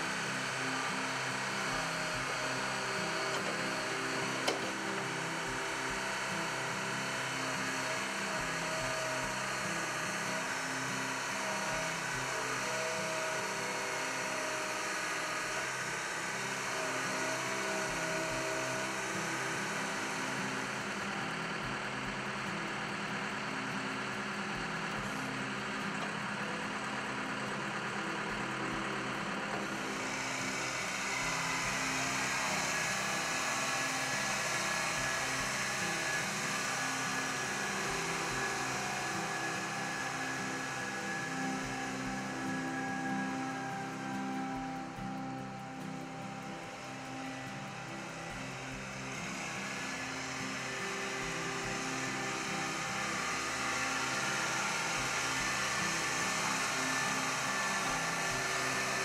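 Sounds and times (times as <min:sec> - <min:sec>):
diesel engine running: 0:00.0 - 0:59.0
high hiss: 0:00.0 - 0:59.0.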